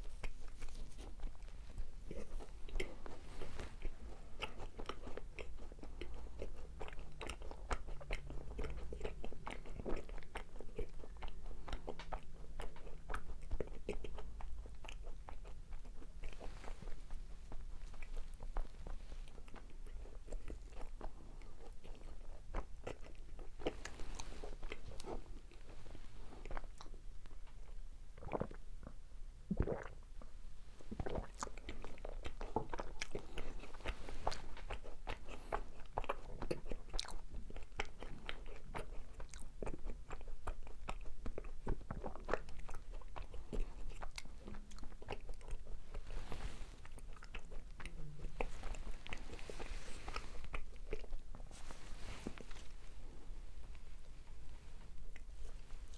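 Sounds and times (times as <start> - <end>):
sticky chewing with crackles: 0.0 - 55.9.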